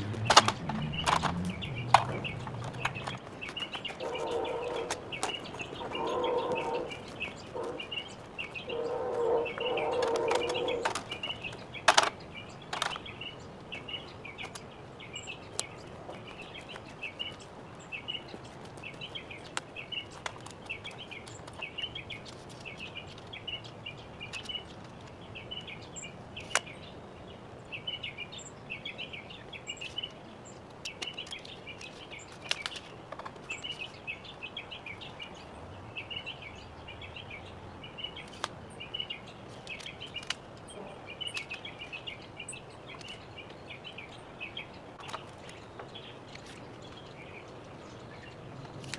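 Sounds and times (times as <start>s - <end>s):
songbird chirping: 0.0s - 48.9s.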